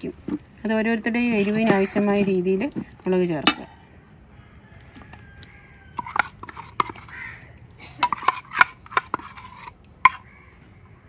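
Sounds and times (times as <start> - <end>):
spoon scraping against bowl: 0.0 - 3.7, 4.9 - 10.5.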